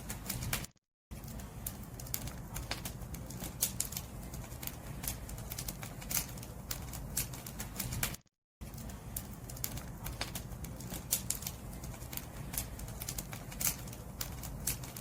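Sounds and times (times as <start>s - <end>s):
bonfire crackles and pops: 0.0s - 15.0s
low rumble of flames: 0.0s - 15.0s.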